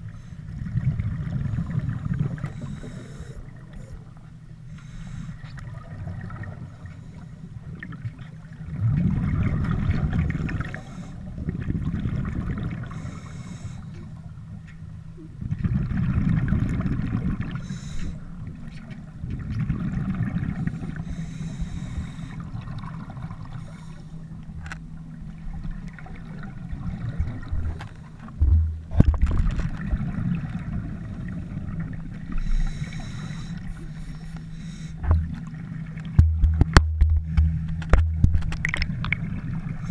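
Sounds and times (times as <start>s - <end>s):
steady low hum: 0.0s - 39.9s
underwater bubbles gurgling: 0.0s - 39.9s.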